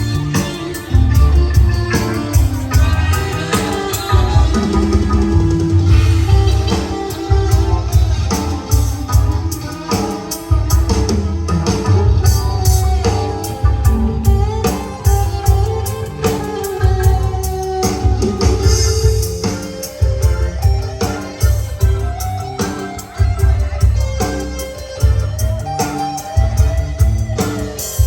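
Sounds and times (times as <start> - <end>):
guitar-led rock music: 0.0 - 28.0.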